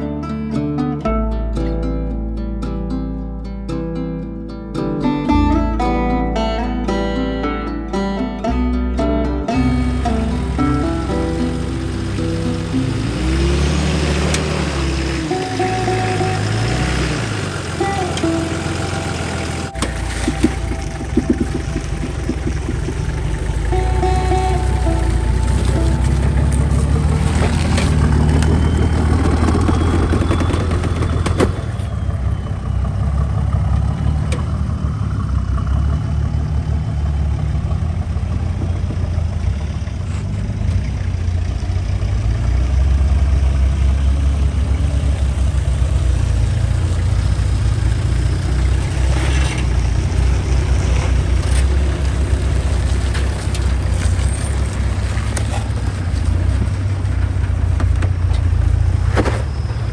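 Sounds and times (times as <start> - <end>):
vehicle engine rumble: 5.2 - 59.9.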